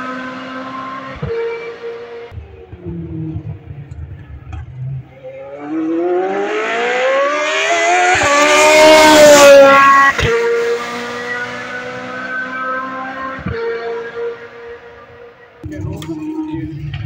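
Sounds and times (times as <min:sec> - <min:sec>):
race car engine passing by: 0:00.0 - 0:15.4.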